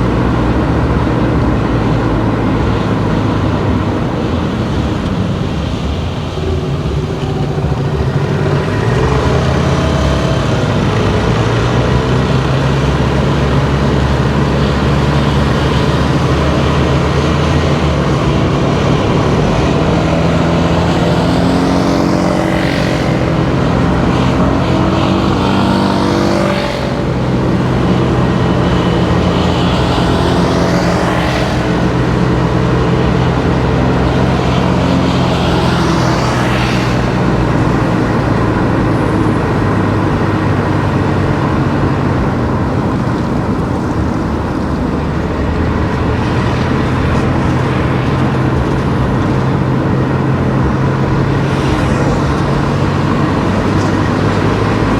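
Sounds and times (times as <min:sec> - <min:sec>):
car engine and road noise: 0:00.0 - 0:54.9
vehicles passing by: 0:00.0 - 0:54.9.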